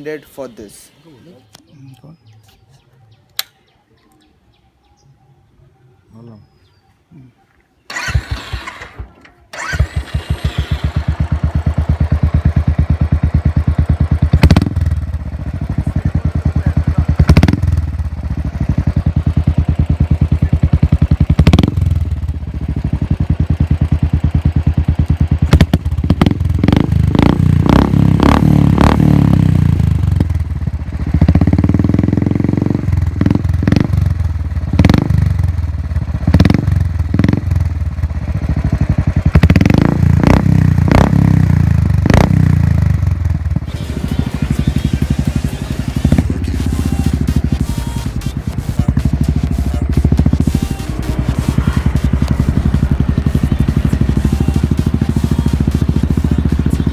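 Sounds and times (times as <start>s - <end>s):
motorcycle engine starting and idling: 7.7s - 56.9s
engine revving: 7.9s - 56.9s.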